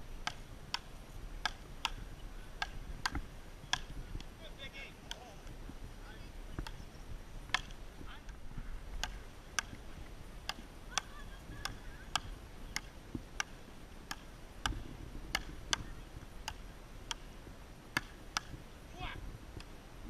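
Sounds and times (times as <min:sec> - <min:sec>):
paddles hitting rubber ball: 0:00.2 - 0:05.6, 0:06.5 - 0:06.8, 0:07.4 - 0:17.3, 0:17.9 - 0:18.6, 0:19.5 - 0:19.8.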